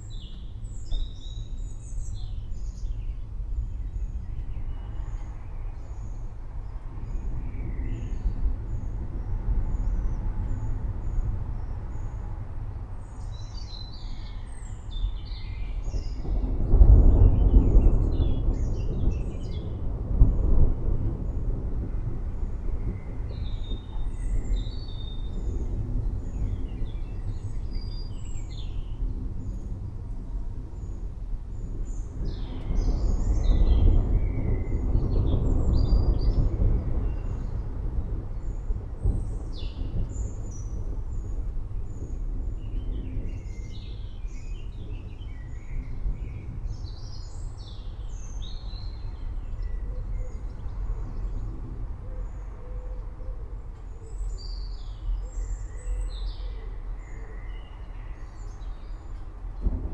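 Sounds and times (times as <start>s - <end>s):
low rolling thunder: 0.0s - 59.9s
steady rain: 0.0s - 59.9s.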